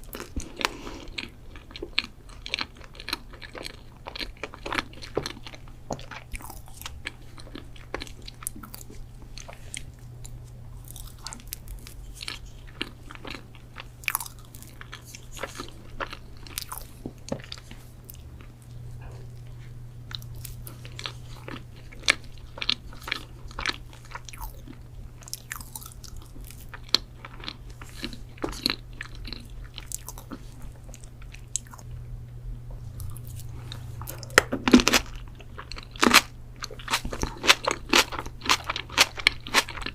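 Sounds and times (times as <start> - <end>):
person biting and chewing: 0.0 - 18.5, 19.3 - 31.9, 32.9 - 39.9
steady low hum: 0.0 - 39.9.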